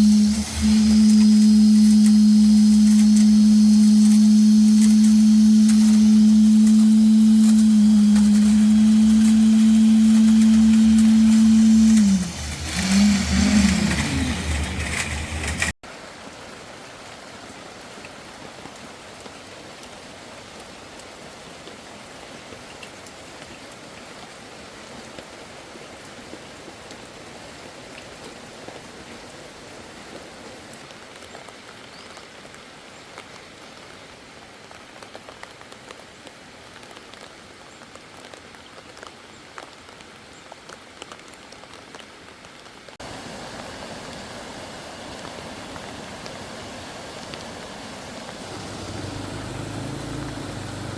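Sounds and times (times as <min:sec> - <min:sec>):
rain falling on a surface: 0:00.0 - 0:50.9.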